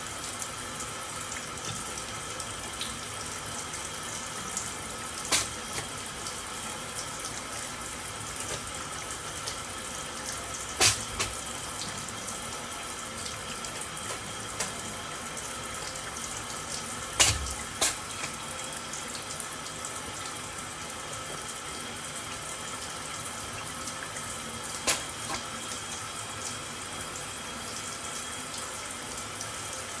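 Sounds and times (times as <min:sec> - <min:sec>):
tap water running into sink: 0:00.0 - 0:30.0.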